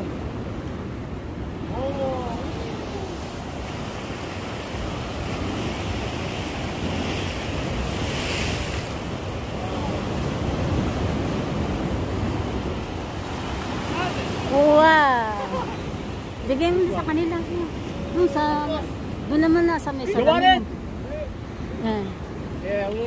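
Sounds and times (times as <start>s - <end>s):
sea waves washing against rocks: 0.0s - 23.0s
wind buffeting microphone: 0.0s - 23.0s.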